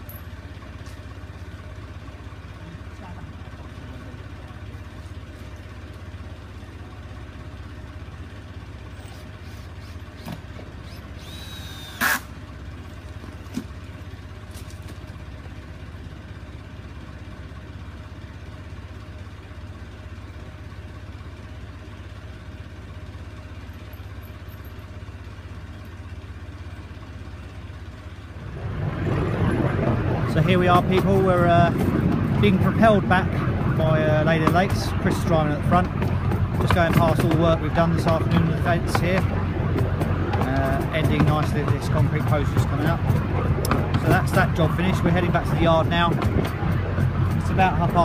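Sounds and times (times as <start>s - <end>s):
diesel locomotive idling: 0.0s - 48.0s.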